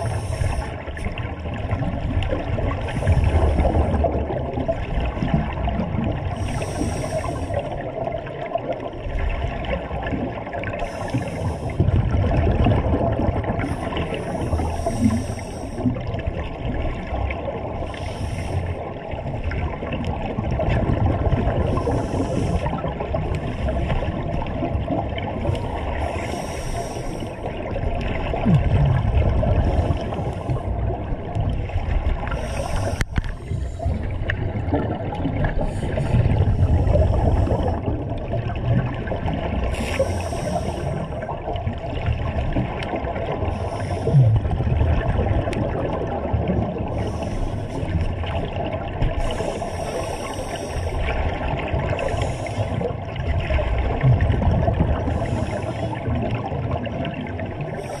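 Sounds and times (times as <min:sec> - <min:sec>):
exhaled bubbles gurgling: 0:00.0 - 0:58.0
muffled water rumble: 0:00.0 - 0:58.0.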